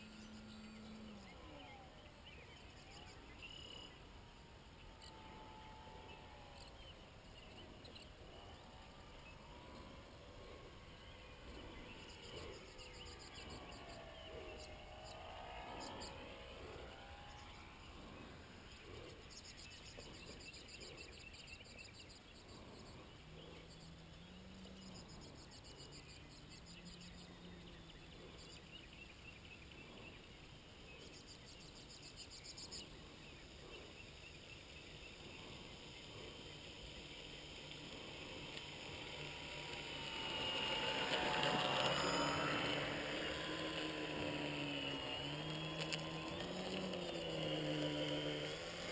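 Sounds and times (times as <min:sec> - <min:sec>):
model plane electric motor whine: 0:00.0 - 0:48.9
insect chirring: 0:06.6 - 0:48.9.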